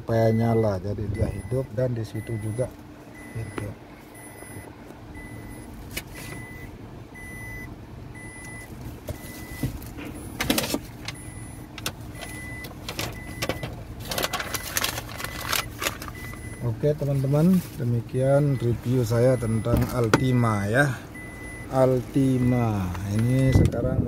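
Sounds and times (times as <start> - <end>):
car warning chime beeping: 0.0 - 23.9
car engine idling: 0.0 - 24.0.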